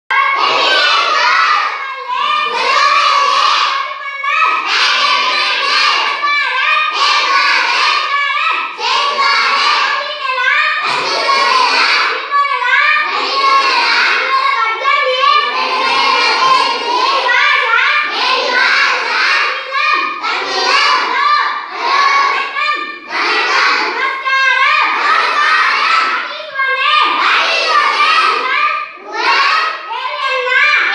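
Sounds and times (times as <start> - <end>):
children chanting in chorus: 0.1 - 30.9.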